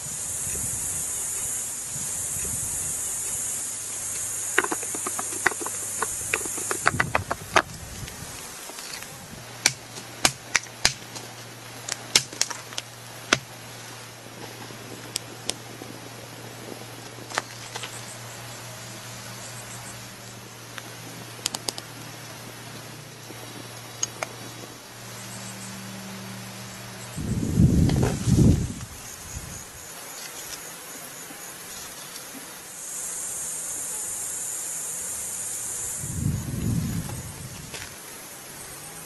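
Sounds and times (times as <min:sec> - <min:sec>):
steady high hiss: 0:00.0 - 0:39.0.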